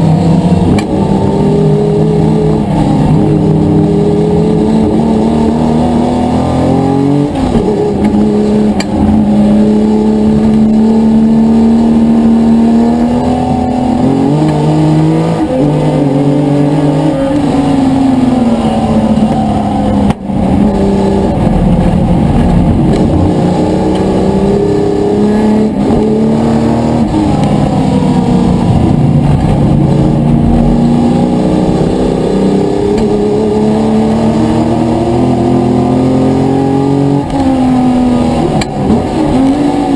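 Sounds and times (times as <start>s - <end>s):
racing car engines at full throttle: 0.0s - 39.9s.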